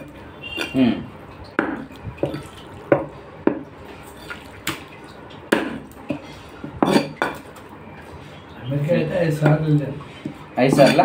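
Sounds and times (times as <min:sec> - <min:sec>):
dripping splashing water: 0:00.0 - 0:11.0.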